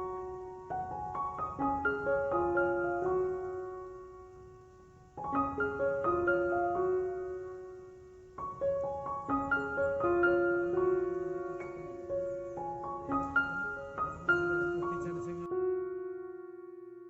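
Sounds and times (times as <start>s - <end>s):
gentle piano arpeggios: 0.0s - 17.0s.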